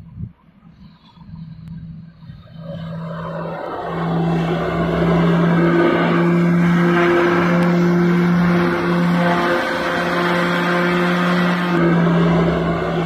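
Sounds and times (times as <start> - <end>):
propeller engine drone: 0.6 - 13.0
rushing noise: 2.1 - 13.0.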